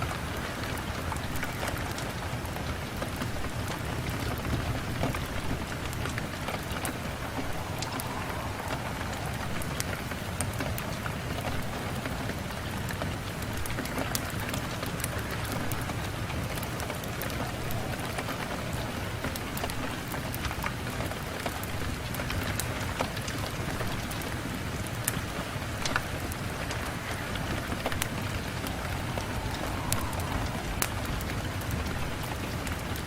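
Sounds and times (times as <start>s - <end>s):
rain on a window: 0.0s - 33.0s.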